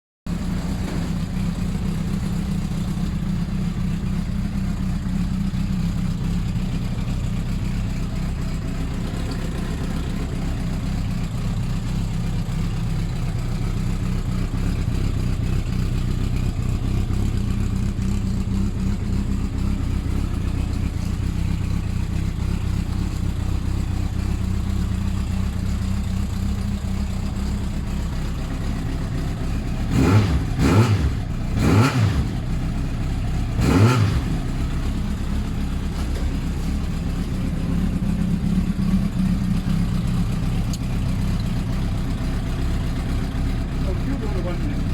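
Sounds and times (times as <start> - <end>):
motorcycle engine idling: 0.3 - 44.9.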